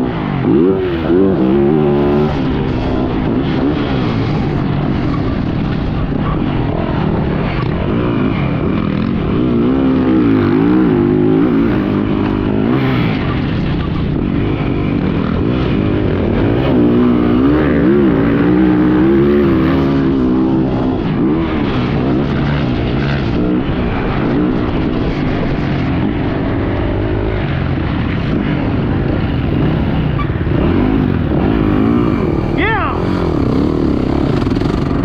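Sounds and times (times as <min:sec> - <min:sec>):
motocross bike engine revving: 0:00.0 - 0:35.0.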